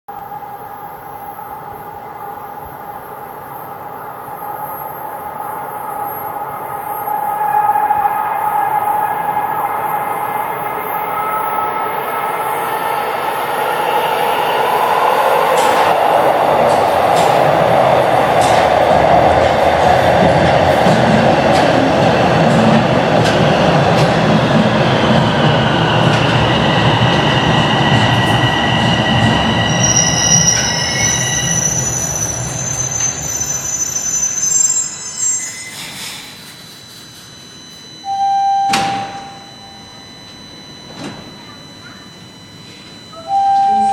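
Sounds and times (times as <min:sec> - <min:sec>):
subway train rumbling: 0:00.1 - 0:43.9.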